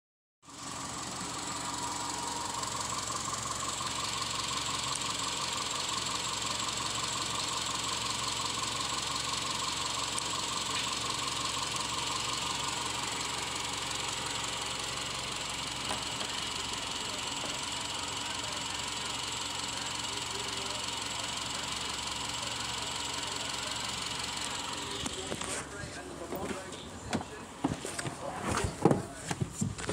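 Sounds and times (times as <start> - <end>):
car engine idling: 0.4 - 29.9.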